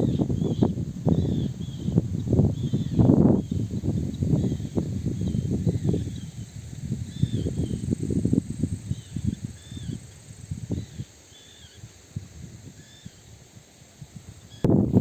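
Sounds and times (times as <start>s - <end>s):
wind buffeting microphone: 0.0s - 11.2s, 11.8s - 15.0s.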